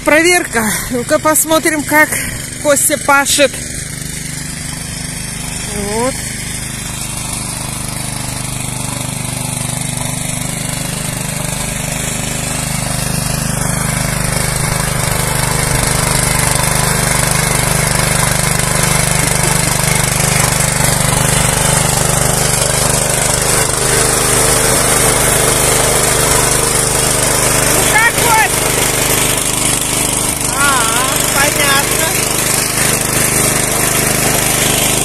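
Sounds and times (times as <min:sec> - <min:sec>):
cultivator engine drone: 0:00.0 - 0:35.0
tines churning soil: 0:00.0 - 0:35.0.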